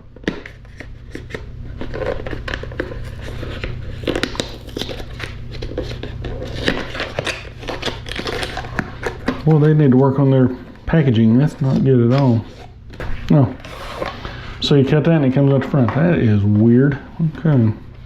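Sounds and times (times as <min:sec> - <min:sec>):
cardboard and plastic packaging crinkling: 0:00.1 - 0:17.7.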